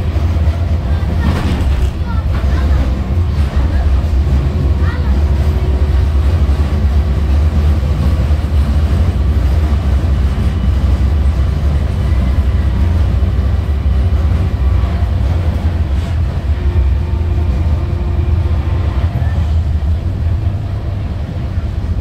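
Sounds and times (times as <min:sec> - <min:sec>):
tram rumbling on track: 0:00.0 - 0:22.0.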